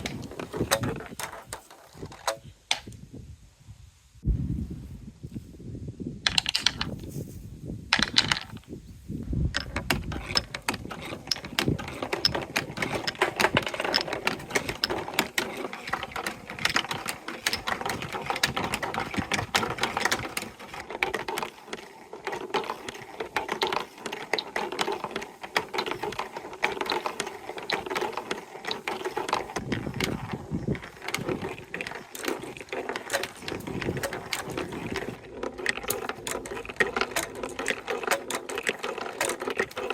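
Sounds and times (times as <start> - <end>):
marbles rattling down plastic run: 0.0 - 2.3, 6.3 - 7.0, 7.9 - 8.7, 9.5 - 39.9.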